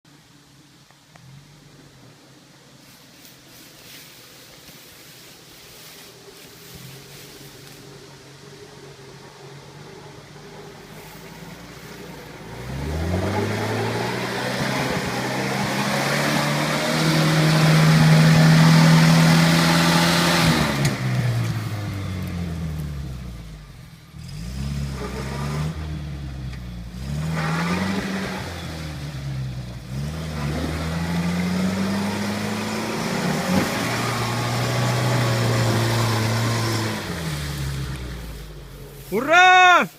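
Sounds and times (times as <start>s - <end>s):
off-road vehicle engine revving: 6.6s - 39.6s.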